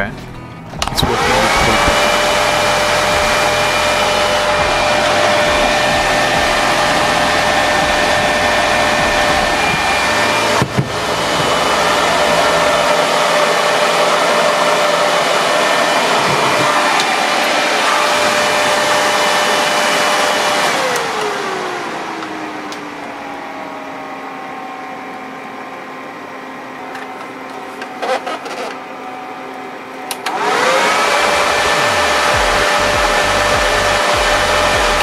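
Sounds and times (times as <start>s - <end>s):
electric fan whining: 0.0s - 35.0s.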